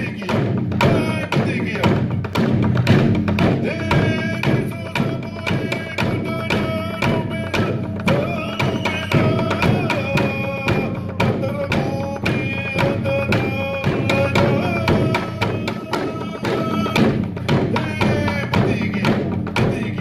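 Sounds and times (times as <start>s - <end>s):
steady drumbeat: 0.0s - 20.0s
voices singing together: 3.6s - 20.0s.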